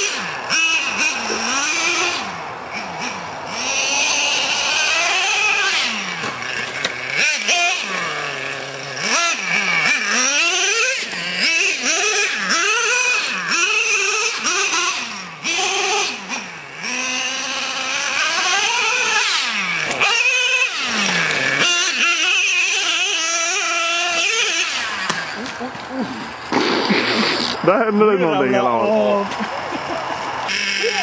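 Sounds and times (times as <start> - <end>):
rc truck engine revving: 0.0 - 31.0.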